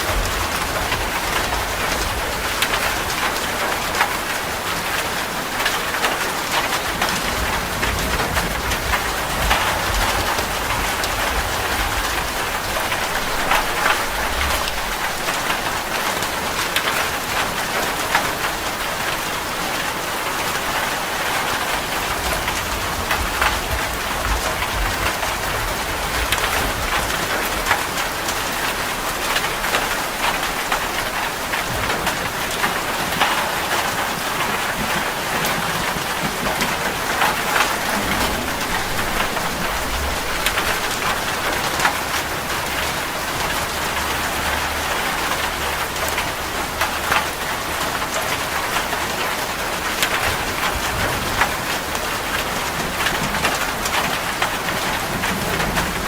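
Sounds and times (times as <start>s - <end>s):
heavy rain on a metal roof: 0.0s - 56.0s
thunder rumbling: 5.5s - 18.4s, 20.4s - 56.0s.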